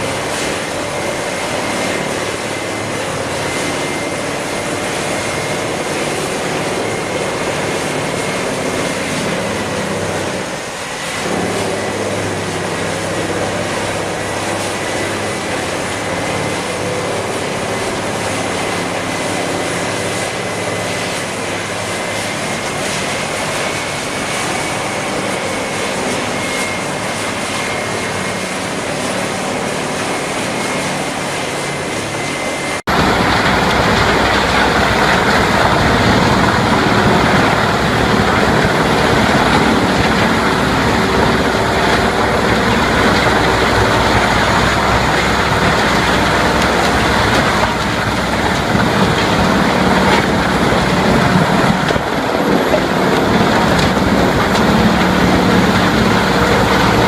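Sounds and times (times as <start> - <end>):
heavy machinery running: 0.0 - 57.0
high-pitched whine: 0.0 - 57.0
rough machine noise: 0.0 - 57.0.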